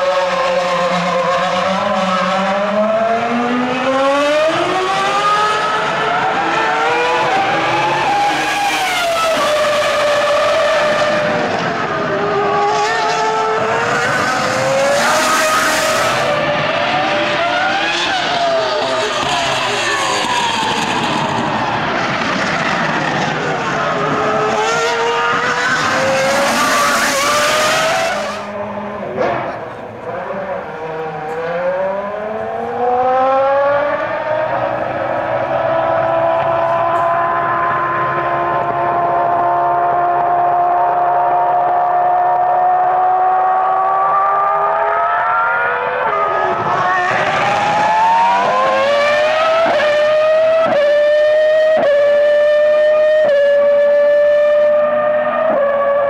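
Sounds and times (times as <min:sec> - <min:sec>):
racing car engine at high revs: 0:00.0 - 0:56.0.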